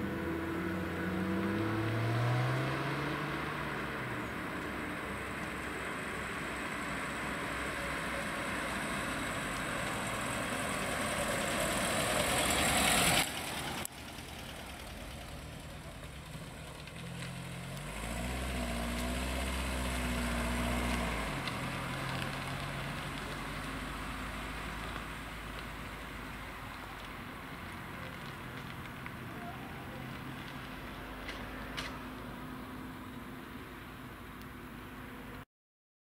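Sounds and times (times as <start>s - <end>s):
car engine: 0.0s - 35.4s
road noise: 0.0s - 35.5s.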